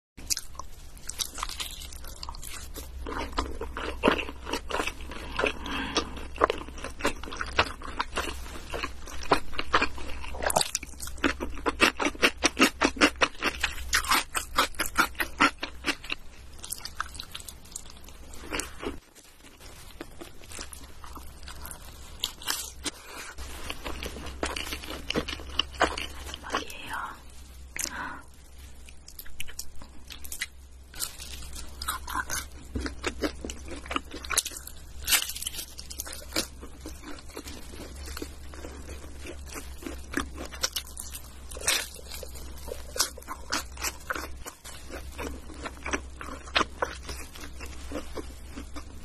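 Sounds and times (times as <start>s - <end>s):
crunchy wet chewing: 0.2s - 26.9s, 27.8s - 49.0s.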